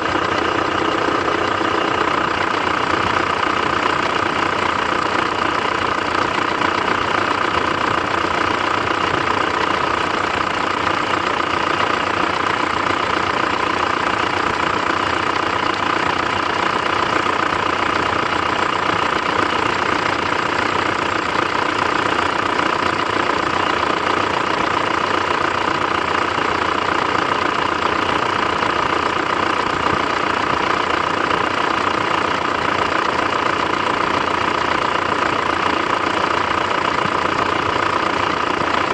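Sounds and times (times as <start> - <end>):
diesel engine idling with knock: 0.0 - 38.9.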